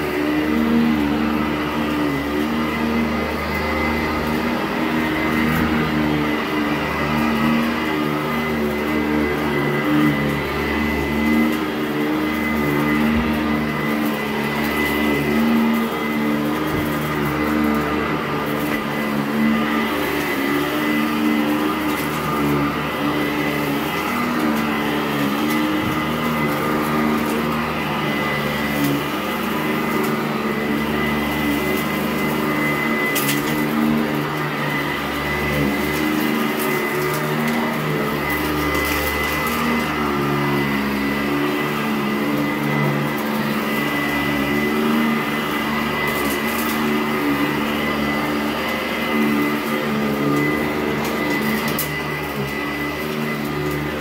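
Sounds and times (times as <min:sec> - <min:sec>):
upright vacuum running: 0:00.0 - 0:54.0.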